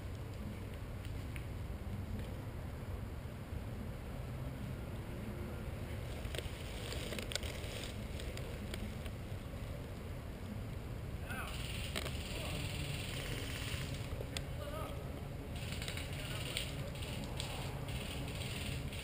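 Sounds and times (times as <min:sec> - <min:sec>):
distant voices: 0:00.0 - 0:19.0.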